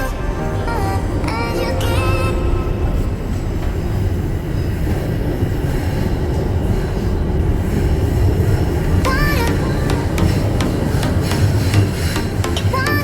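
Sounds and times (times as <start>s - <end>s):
rail car running on tracks: 0.0s - 13.0s.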